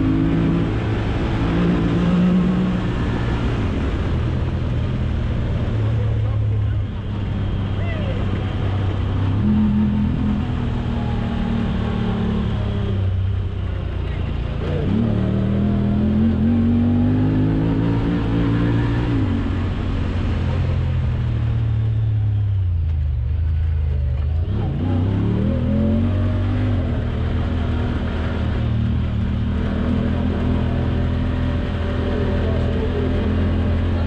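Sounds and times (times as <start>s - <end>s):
off-road vehicle engine running: 0.0s - 34.0s.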